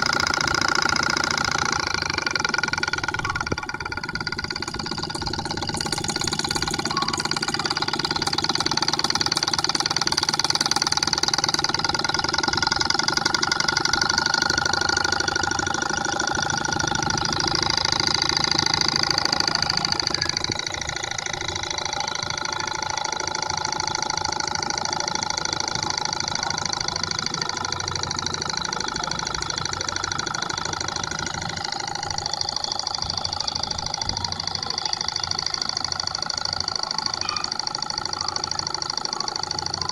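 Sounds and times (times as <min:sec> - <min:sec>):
engine whirring with high whine: 0:00.0 - 0:39.9.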